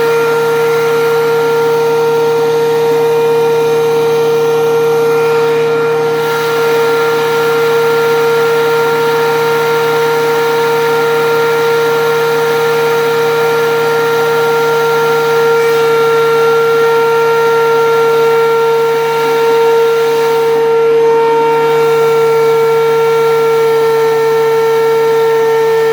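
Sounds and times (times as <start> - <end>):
thickness planer high whine: 0.0 - 25.9.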